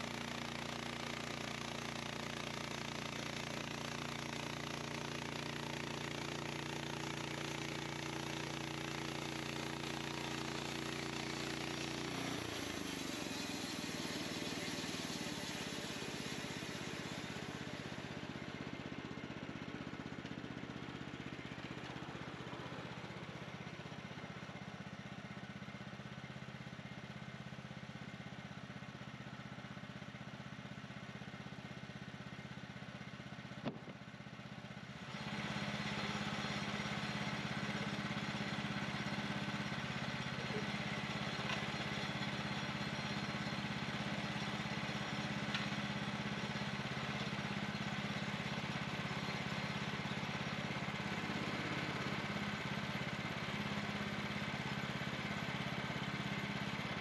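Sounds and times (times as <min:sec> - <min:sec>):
gas engine running: 0:00.0 - 0:28.8, 0:31.2 - 0:57.0.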